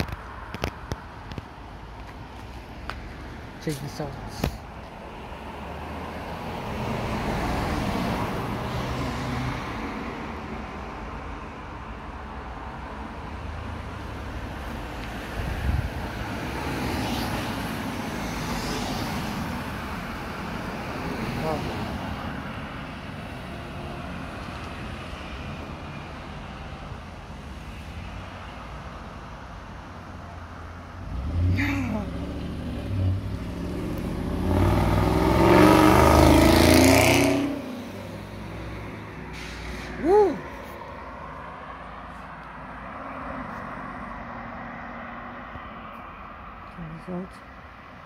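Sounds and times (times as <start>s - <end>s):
cars driving past: 0.0s - 48.0s.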